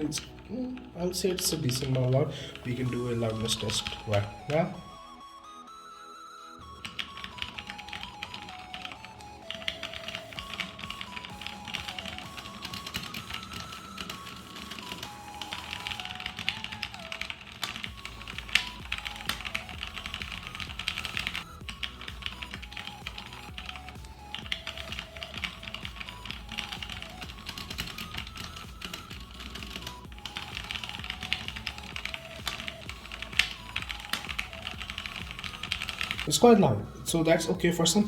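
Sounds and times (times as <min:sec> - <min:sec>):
mechanical keyboard typing: 0:00.0 - 0:04.7, 0:06.6 - 0:36.4
quiet background music: 0:00.0 - 0:38.0.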